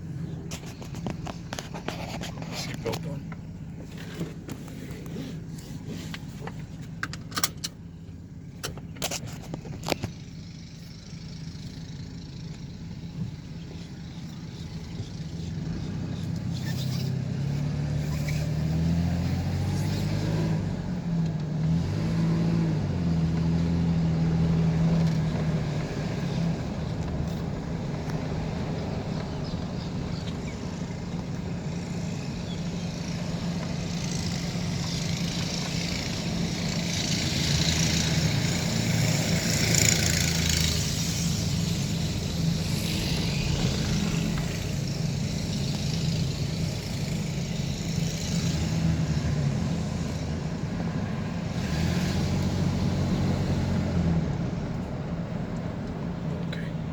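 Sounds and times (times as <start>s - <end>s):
road noise: 0.0s - 56.9s
van engine accelerating: 0.0s - 56.9s.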